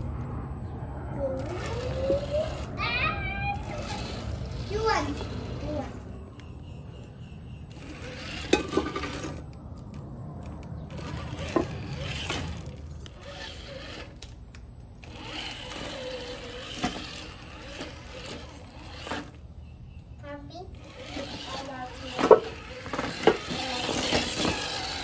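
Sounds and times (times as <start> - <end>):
toy car electric motor: 0.5 - 6.4, 7.0 - 25.0.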